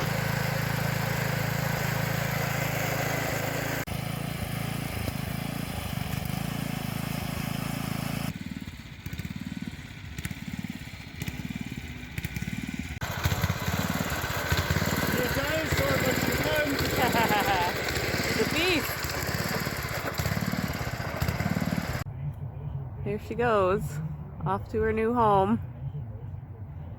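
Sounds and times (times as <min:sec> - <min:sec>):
small gasoline engine running: 0:00.0 - 0:22.1.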